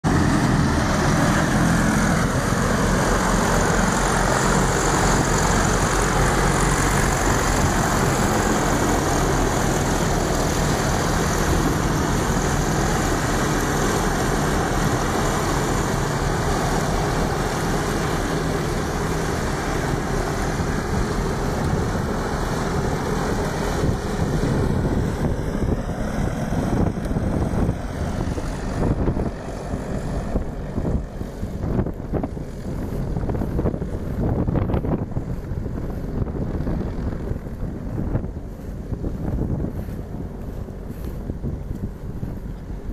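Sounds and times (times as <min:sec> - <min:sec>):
mower cutting grass: 0:00.0 - 0:42.9
tractor diesel engine running: 0:00.0 - 0:42.9.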